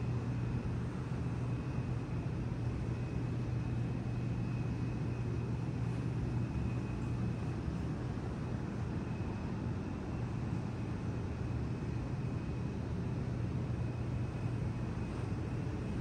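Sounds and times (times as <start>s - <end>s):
faint high whine: 0.0s - 16.0s
ventilation system hum: 0.0s - 16.0s.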